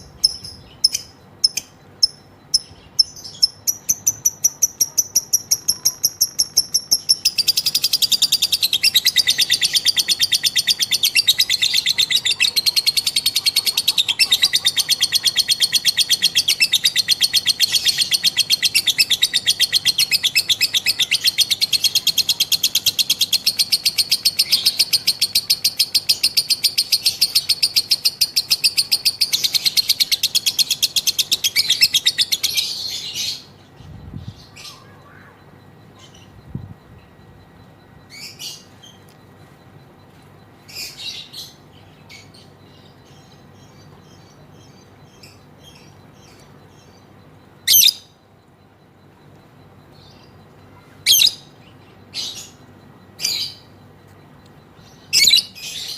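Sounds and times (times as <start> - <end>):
lovebird chattering trill: 0.0 - 40.0, 40.6 - 48.2, 49.1 - 55.9.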